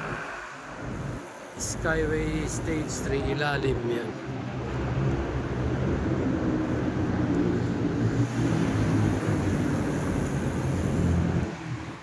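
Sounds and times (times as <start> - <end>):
road traffic engines droning: 0.0 - 12.0.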